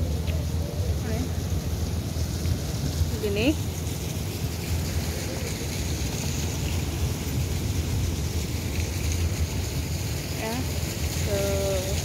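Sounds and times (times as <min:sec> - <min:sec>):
city street rumble: 0:00.0 - 0:12.0
wind buffeting microphone: 0:00.0 - 0:12.0.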